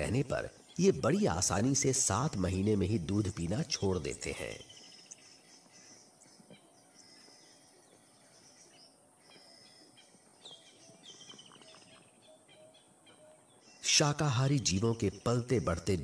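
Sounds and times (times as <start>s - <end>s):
bird trill: 0.0s - 16.0s
birds chirping: 0.0s - 16.0s.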